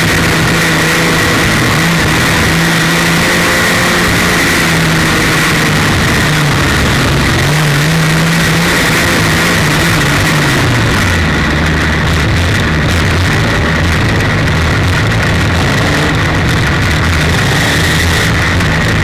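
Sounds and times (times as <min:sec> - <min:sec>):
high whine: 0:00.0 - 0:19.0
race car engine at speed: 0:00.0 - 0:19.0
rushing noise: 0:00.0 - 0:19.0.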